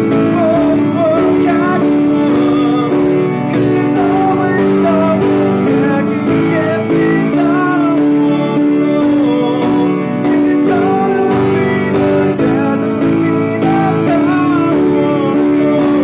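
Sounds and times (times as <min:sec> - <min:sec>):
instrumental chords: 0:00.0 - 0:16.0
man singing slow song: 0:00.0 - 0:16.0.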